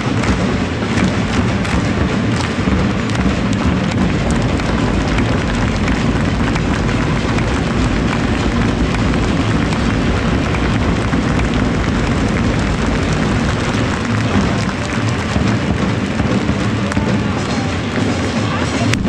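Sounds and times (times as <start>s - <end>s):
crowd din: 0.0s - 19.0s
heavy low rumble: 0.0s - 19.0s.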